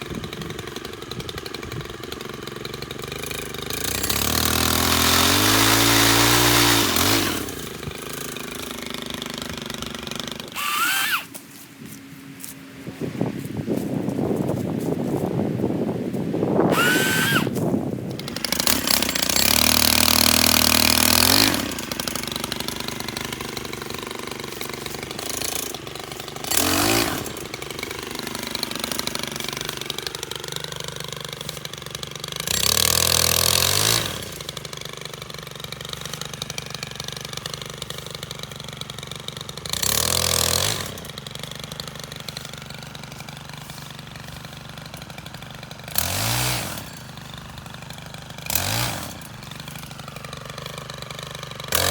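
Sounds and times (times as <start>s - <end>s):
pole saw engine revving: 0.0s - 12.6s, 16.5s - 51.9s.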